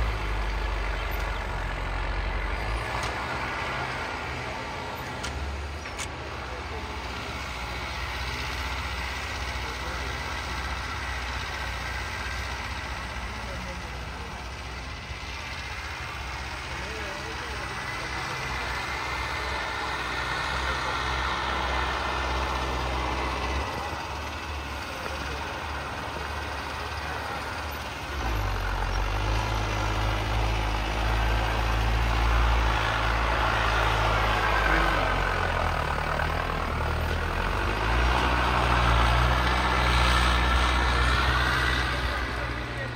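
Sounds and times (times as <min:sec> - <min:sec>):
high engine whine: 0:00.0 - 0:42.9
tractor diesel engine droning: 0:00.0 - 0:42.9.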